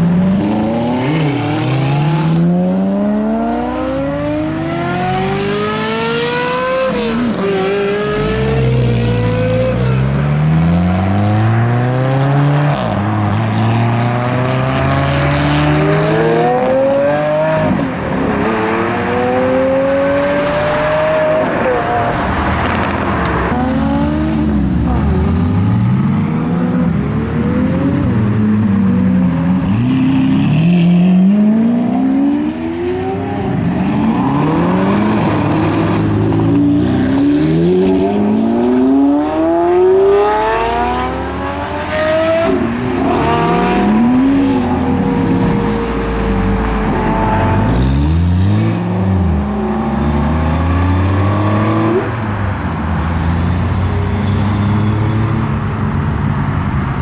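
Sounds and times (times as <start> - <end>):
supercar engines revving: 0.0 - 57.0.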